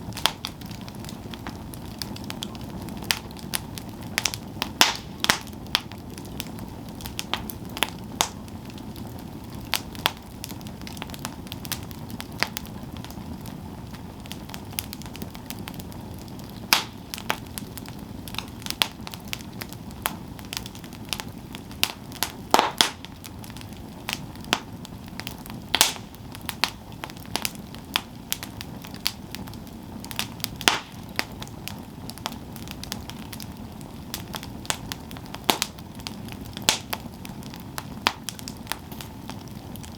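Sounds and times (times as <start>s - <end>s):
rush of fire flames: 0.0s - 39.9s
wood crackling and popping: 0.0s - 39.9s.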